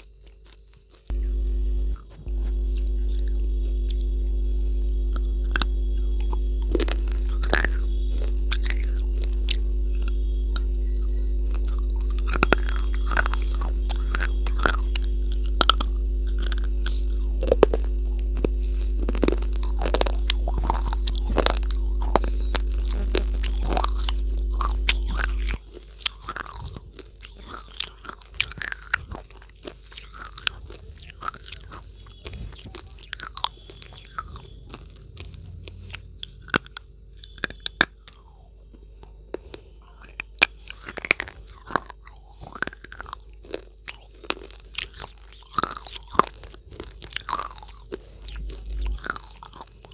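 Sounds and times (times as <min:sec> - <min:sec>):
crunching chewing of hard block: 0:00.0 - 0:49.9
low electrical hum: 0:00.0 - 0:49.9.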